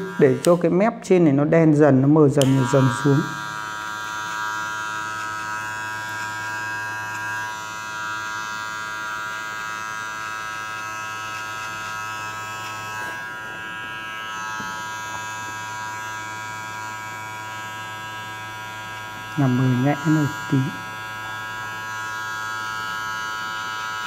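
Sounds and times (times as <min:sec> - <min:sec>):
electric hair clipper buzzing: 0:00.0 - 0:24.0.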